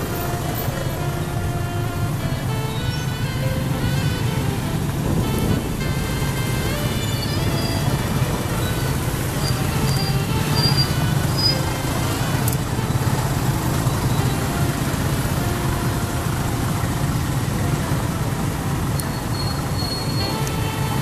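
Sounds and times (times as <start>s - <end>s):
many engines rumbling in traffic: 0.0s - 21.0s
voices: 0.0s - 21.0s.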